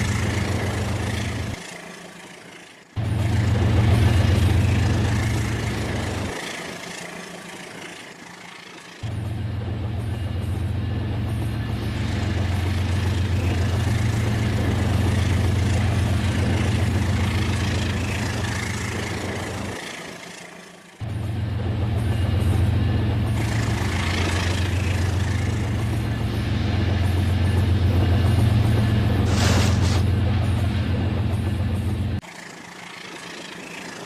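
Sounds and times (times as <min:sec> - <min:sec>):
toy train humming and rattling: 0:00.0 - 0:34.0.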